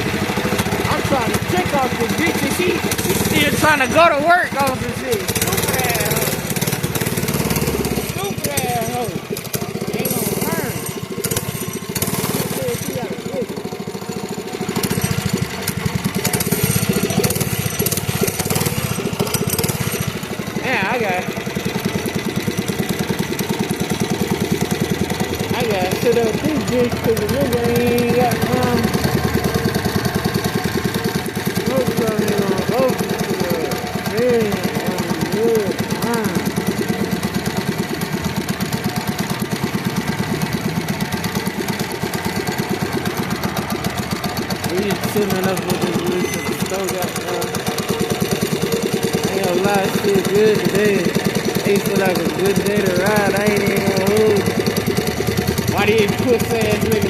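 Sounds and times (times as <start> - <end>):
small engine puttering: 0.0 - 57.0.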